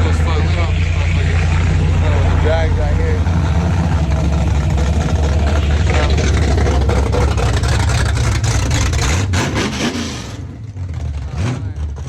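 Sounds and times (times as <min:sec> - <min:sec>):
racing car engine rumbling: 0:00.0 - 0:12.0.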